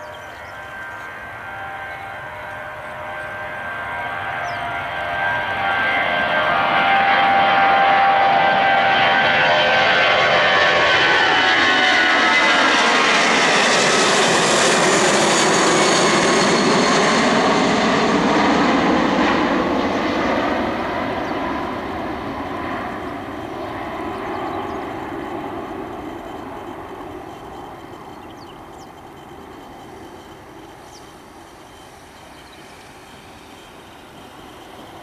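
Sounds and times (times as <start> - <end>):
jet aircraft passing overhead: 0.0 - 35.0.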